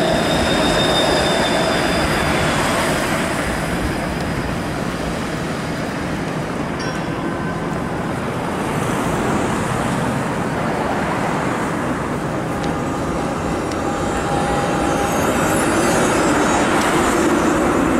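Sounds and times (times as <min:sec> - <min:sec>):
city street traffic: 0:00.0 - 0:17.9
streetcar passing: 0:00.0 - 0:17.9.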